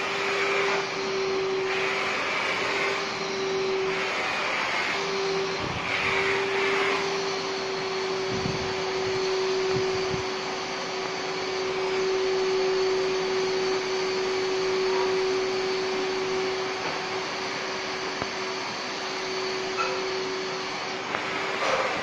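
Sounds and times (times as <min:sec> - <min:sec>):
vacuum cleaner humming: 0:00.0 - 0:22.0.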